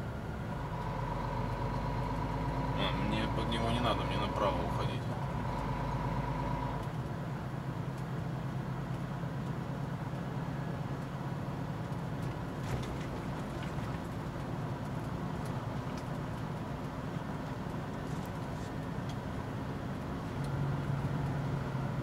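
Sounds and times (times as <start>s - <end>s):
road noise: 0.0s - 22.0s
truck diesel engine drone: 0.0s - 22.0s.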